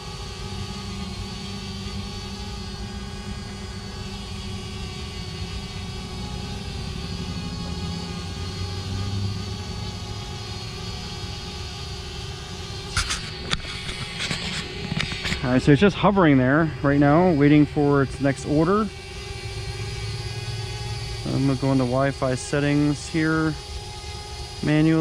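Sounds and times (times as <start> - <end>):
quadcopter propellers buzzing: 0.0 - 25.0.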